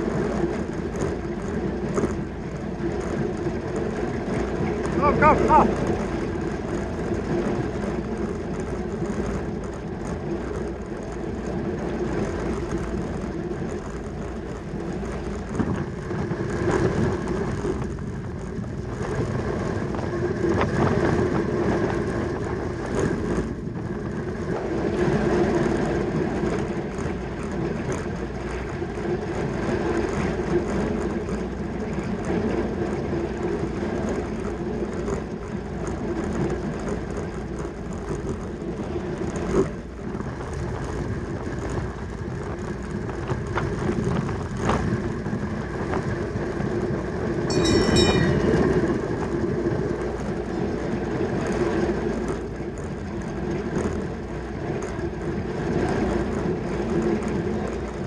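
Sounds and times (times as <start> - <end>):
bicycle tyres rolling: 0.0 - 58.0.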